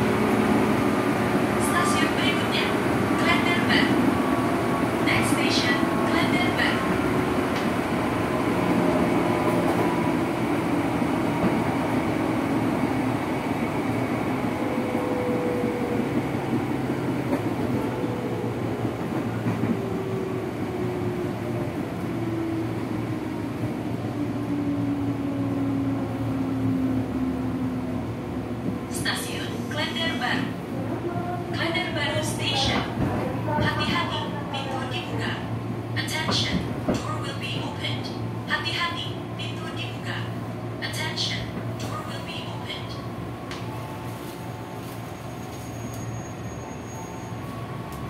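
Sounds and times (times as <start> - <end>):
train wheels rumbling: 0.0 - 48.0.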